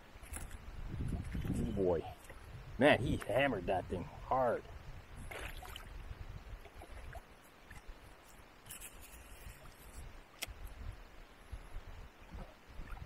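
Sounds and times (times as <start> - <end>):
low rumble of water and wind: 0.0 - 13.0.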